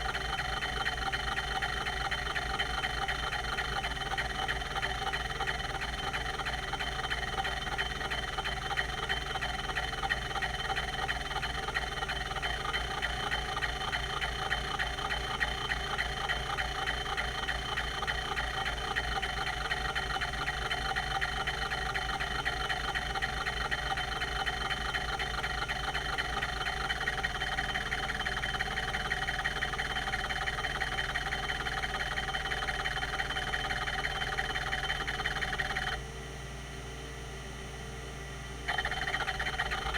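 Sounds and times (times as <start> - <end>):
hard drive ticking and squeaking: 0.0 - 36.1, 38.6 - 39.9
hard drive spindle hum: 0.0 - 39.9.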